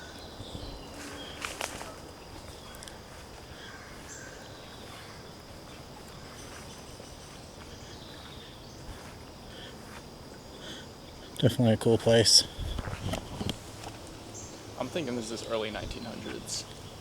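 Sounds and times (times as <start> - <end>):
insect drone: 0.0 - 17.0
steady hiss: 0.9 - 17.0.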